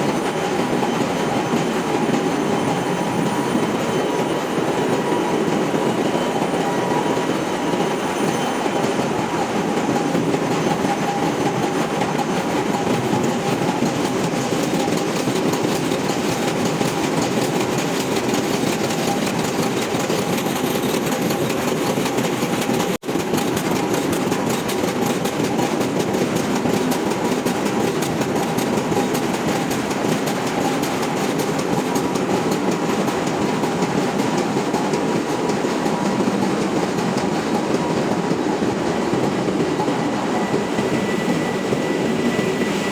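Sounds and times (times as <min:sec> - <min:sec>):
engine room machinery noise: 0:00.0 - 0:42.9.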